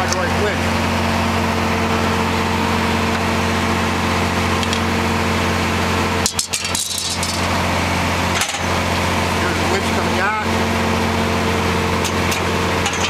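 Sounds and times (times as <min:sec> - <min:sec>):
brush chipper engine running: 0:00.0 - 0:13.0.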